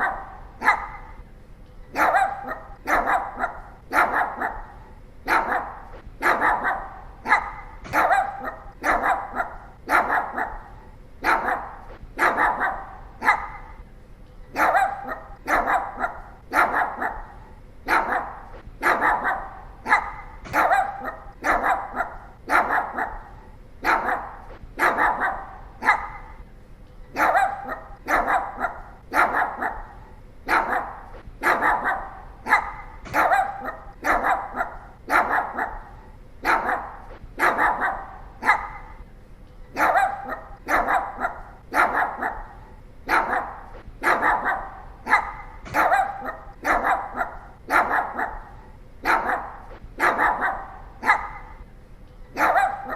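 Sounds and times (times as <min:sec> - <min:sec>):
small dog barking: 0:00.0 - 0:01.2, 0:01.9 - 0:13.8, 0:14.5 - 0:26.4, 0:27.1 - 0:39.0, 0:39.7 - 0:51.7, 0:52.3 - 0:52.9.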